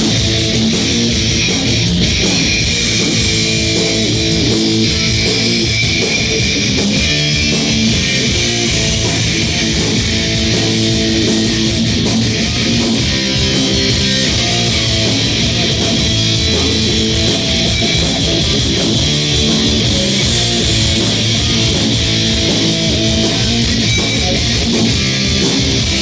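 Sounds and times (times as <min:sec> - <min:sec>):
bass guitar: 0:00.0 - 0:26.0
distorted electric guitars: 0:00.0 - 0:26.0
drums and cymbal hits: 0:00.0 - 0:26.0.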